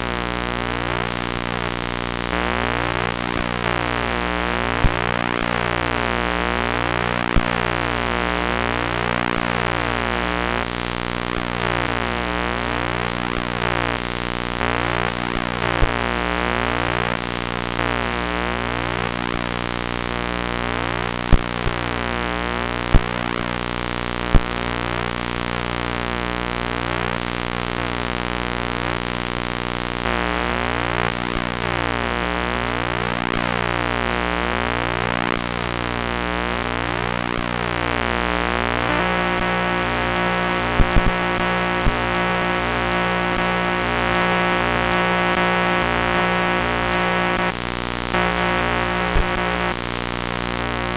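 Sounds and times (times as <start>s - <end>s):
harsh electronic buzzing drone: 0.0s - 50.9s.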